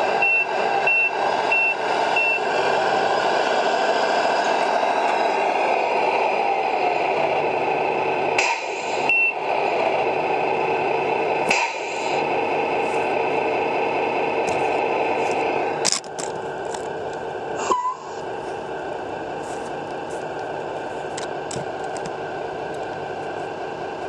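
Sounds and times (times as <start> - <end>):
diesel engine running from speaker: 0.0 - 24.0.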